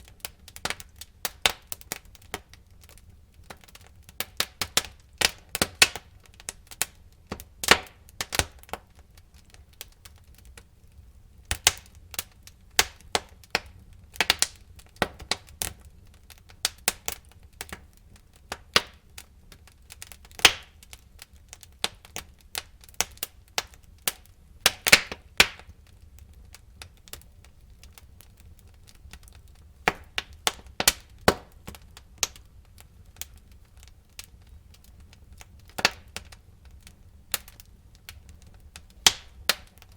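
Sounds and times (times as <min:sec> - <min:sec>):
low rumble of fire: 0:00.0 - 0:39.9
sharp snaps and pops: 0:00.0 - 0:39.9
wood fire crackling: 0:00.0 - 0:39.9.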